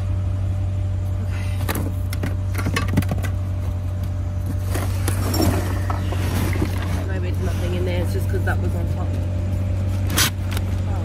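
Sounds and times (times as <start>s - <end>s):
low hum: 0.0s - 11.0s
items rustling in a dumpster: 1.3s - 10.8s.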